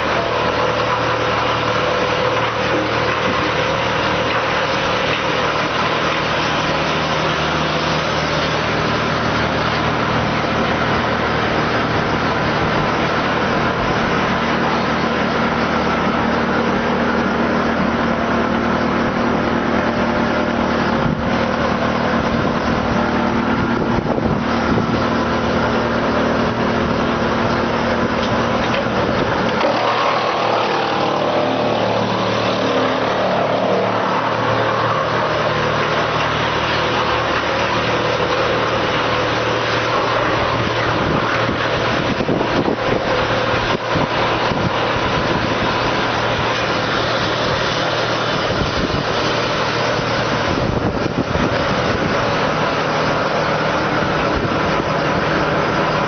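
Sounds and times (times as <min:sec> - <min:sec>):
wood chipper droning: 0:00.0 - 0:56.0.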